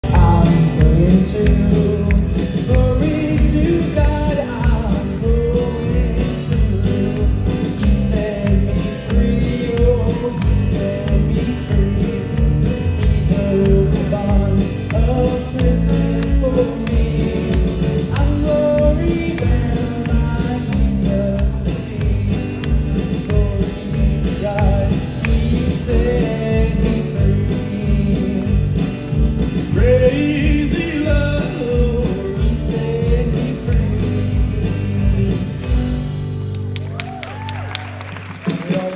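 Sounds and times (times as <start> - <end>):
person singing: 0.0 - 36.0
drums with steady beat: 0.0 - 36.2
electric bass: 0.0 - 37.5
acoustic guitar: 0.0 - 38.9
keyboard: 0.0 - 38.9.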